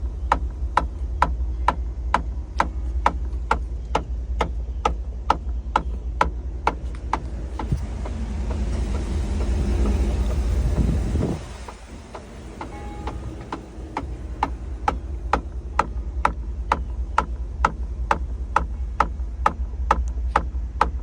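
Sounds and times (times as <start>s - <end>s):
rhythmic knocking in car interior: 0.0s - 21.0s
vehicle running rumble: 0.0s - 21.0s.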